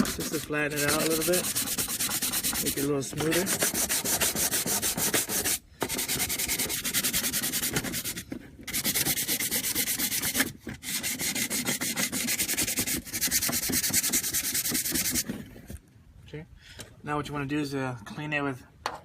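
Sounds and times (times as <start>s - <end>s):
sandpaper rubbing on metal: 0.0s - 15.3s.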